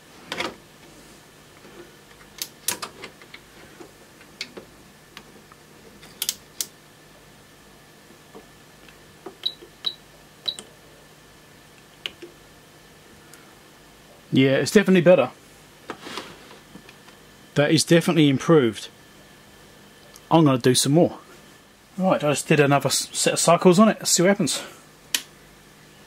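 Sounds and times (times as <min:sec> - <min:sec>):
faint electronic hum: 0:00.0 - 0:26.0.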